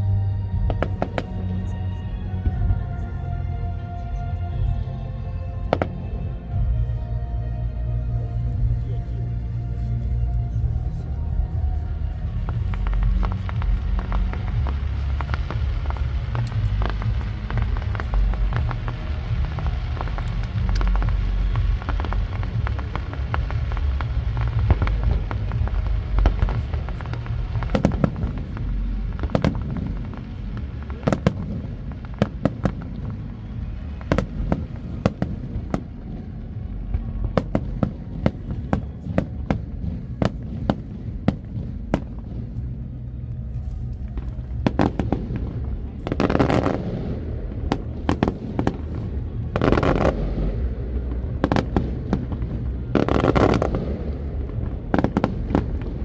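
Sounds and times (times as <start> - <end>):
deep rumble: 0.0 - 56.0
fireworks bursting with sharp bangs: 0.5 - 1.8, 10.5 - 56.0.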